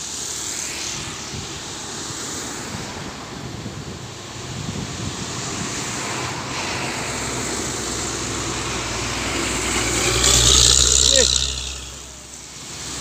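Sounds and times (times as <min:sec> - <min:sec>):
passing vehicle engine: 0:00.0 - 0:13.0.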